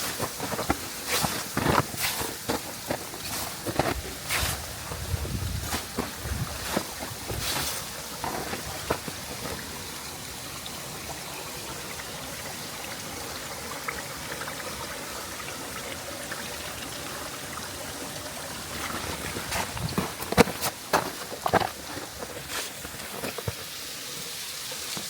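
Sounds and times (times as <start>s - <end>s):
rushing waterfall: 0.0s - 25.0s.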